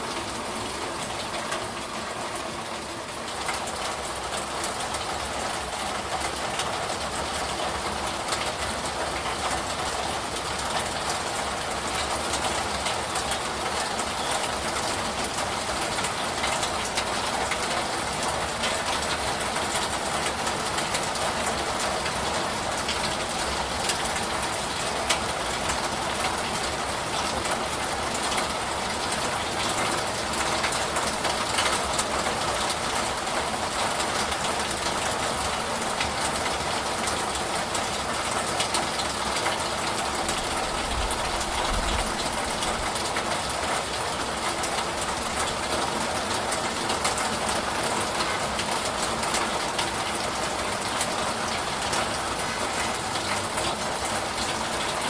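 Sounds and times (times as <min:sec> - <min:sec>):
steady rain falling: 0:00.0 - 0:55.0
raindrop ticks: 0:03.2 - 0:55.0.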